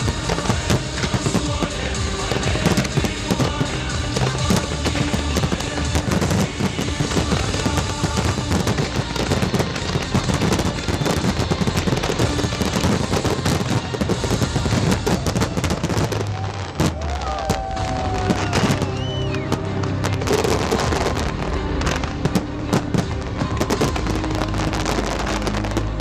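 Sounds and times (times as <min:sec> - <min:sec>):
fireworks crackling and popping: 0:00.0 - 0:26.0
music playing: 0:00.0 - 0:26.0.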